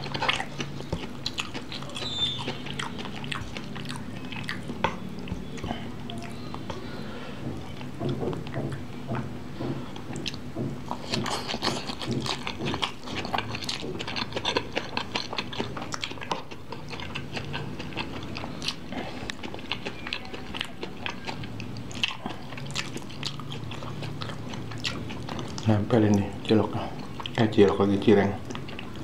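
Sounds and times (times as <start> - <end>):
chewing and crunching vegetables: 0.0 - 29.0.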